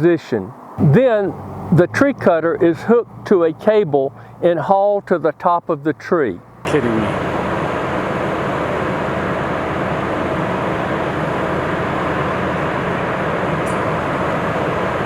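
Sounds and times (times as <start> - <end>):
heavy machinery engine running: 0.8 - 15.0.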